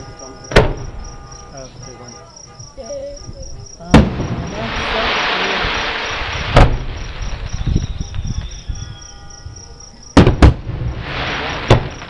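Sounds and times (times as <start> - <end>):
distant fireworks bangs: 0.0 - 2.2, 3.5 - 9.2, 10.0 - 12.0
crickets chirping: 0.0 - 12.0.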